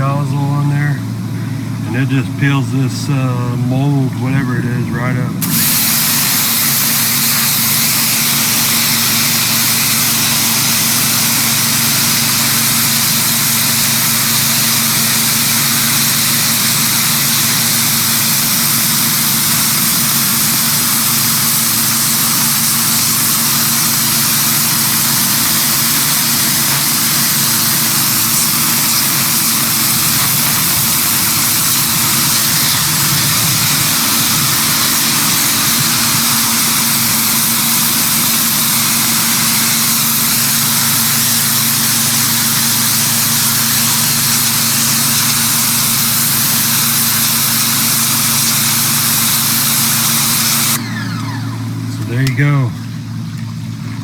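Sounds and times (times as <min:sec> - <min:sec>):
pressure washer motor hum: 0:00.0 - 0:54.0
water jet hissing: 0:00.0 - 0:54.0.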